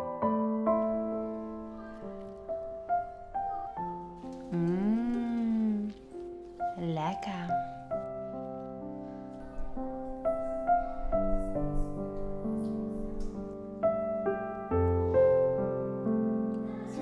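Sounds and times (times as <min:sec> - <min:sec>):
light piano tune: 0:00.0 - 0:17.0.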